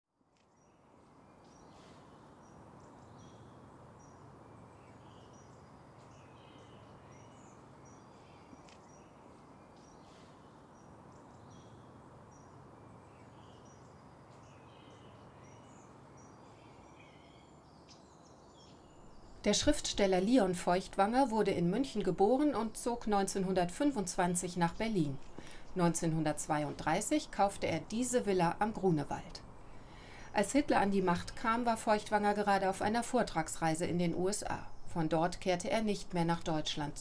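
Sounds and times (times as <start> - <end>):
small birds chirping: 0.4 - 37.0
low steady hum: 0.5 - 37.0.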